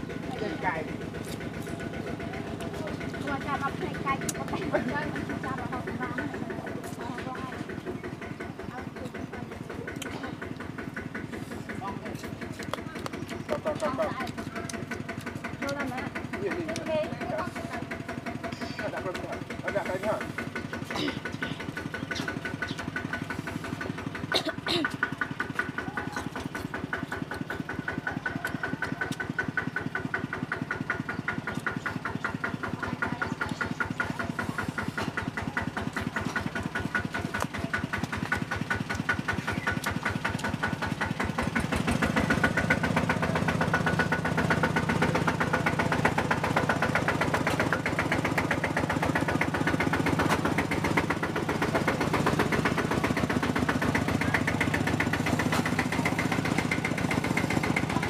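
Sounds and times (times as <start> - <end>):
motor running with fast pulse: 0.0 - 58.0.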